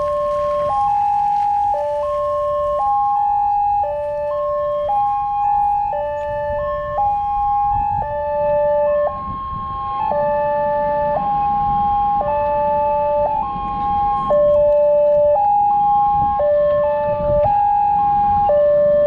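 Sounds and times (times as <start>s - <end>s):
level crossing warning alarms: 0.0s - 19.0s.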